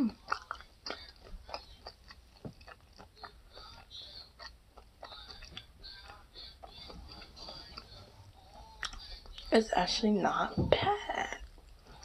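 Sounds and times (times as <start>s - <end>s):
person chewing food: 0.0s - 9.5s, 10.8s - 12.0s.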